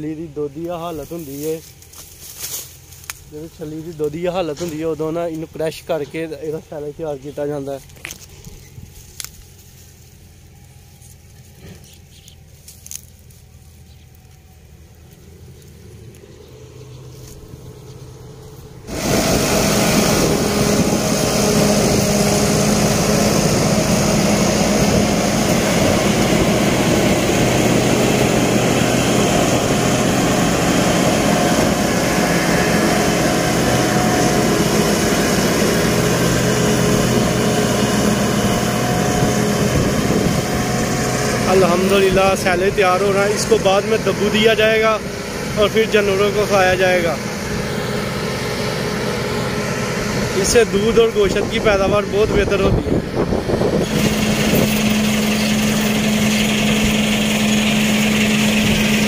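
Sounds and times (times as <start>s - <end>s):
harvester engine drone: 0.0s - 59.0s
tractor running: 0.0s - 59.0s.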